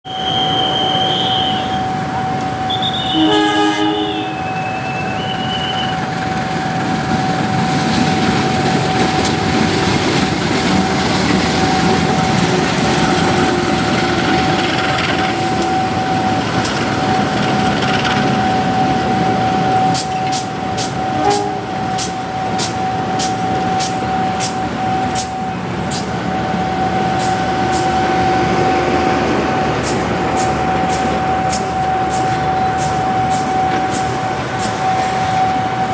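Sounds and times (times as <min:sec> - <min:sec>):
locomotive rumble: 0:00.1 - 0:35.9.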